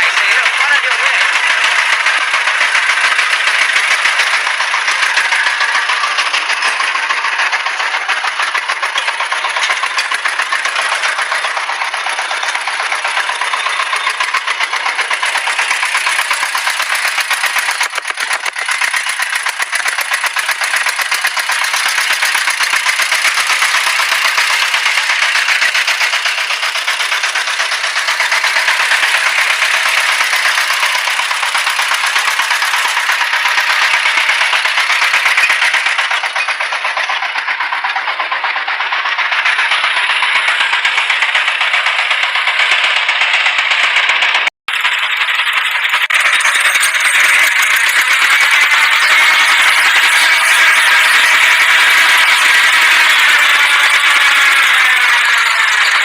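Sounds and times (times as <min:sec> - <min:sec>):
fast even rattling clatter: 0:00.0 - 0:56.0
truck engine running: 0:00.0 - 0:56.0.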